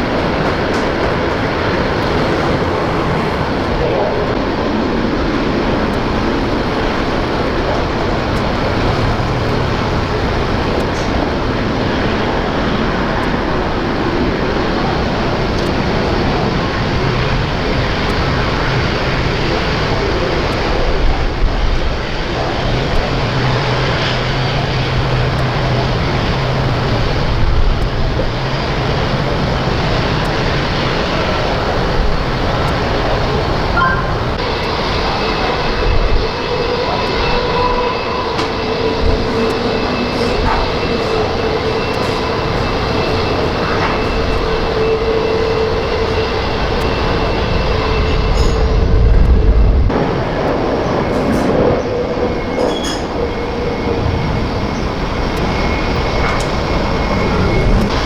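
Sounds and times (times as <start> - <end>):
high jet engine whine: 0.0 - 58.0
jet engines roaring: 0.0 - 58.0.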